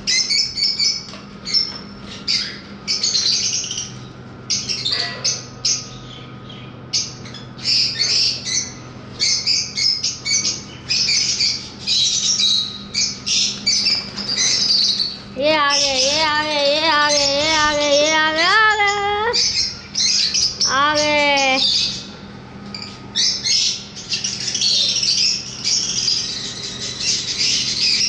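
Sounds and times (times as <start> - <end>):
birds squawking and chirping: 0.0 - 28.0
faint steady hum: 0.0 - 28.0.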